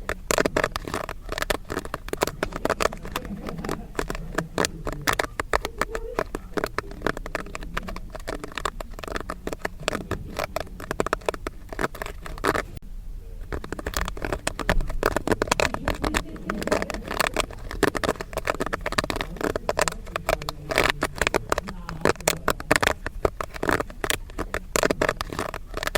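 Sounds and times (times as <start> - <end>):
popcorn kernels popping: 0.0 - 12.8, 13.4 - 25.9.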